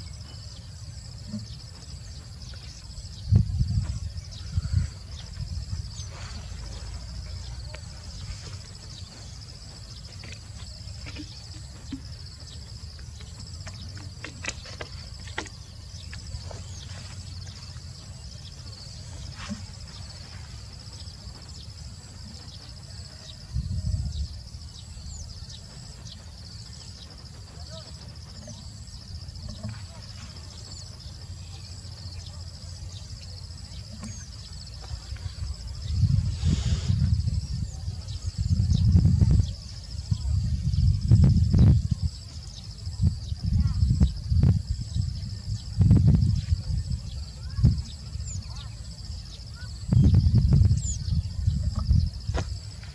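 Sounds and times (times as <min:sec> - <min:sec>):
faint bird chirps: 0:00.0 - 0:52.8
insects trilling: 0:00.0 - 0:52.9.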